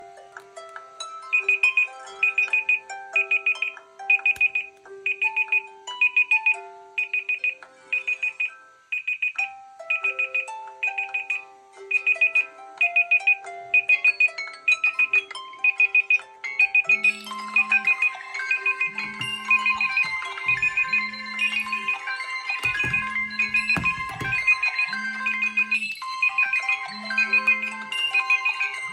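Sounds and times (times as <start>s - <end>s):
electronic phone ringtone: 1.2s - 28.9s.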